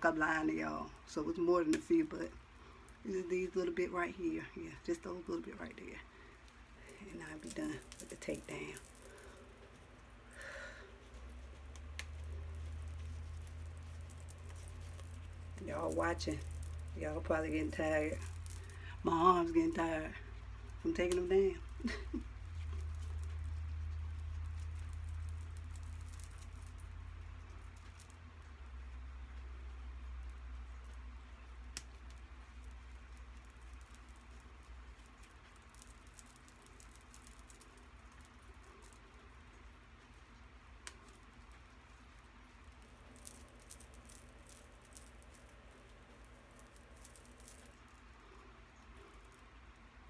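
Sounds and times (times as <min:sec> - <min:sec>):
hair rustling: 0:00.0 - 0:50.0
low steady hum: 0:00.0 - 0:50.0.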